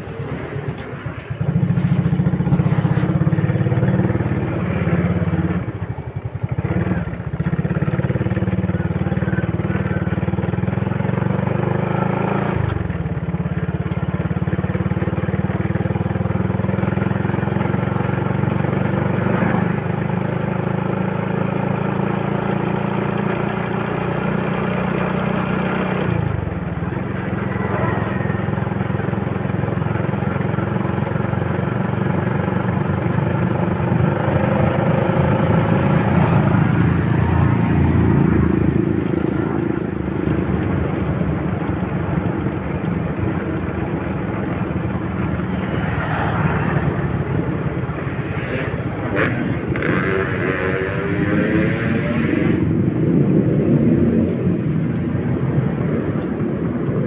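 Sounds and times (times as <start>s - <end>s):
motorcycle engine revving: 1.0s - 56.4s.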